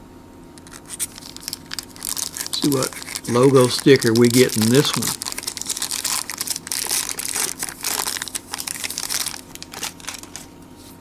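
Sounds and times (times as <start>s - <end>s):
foil wrapper crinkling: 0.6s - 10.5s.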